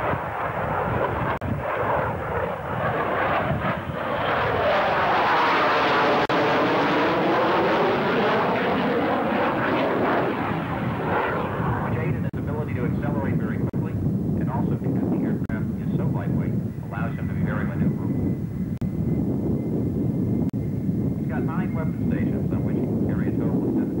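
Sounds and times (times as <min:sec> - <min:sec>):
jet flying past: 0:00.0 - 0:23.9.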